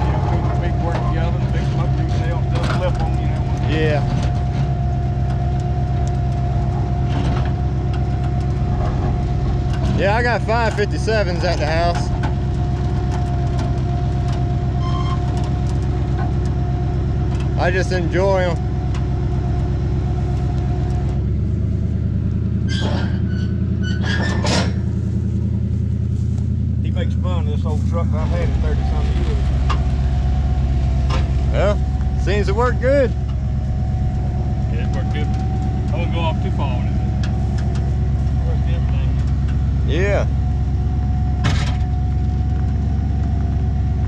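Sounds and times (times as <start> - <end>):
truck engine droning: 0.0 - 44.0.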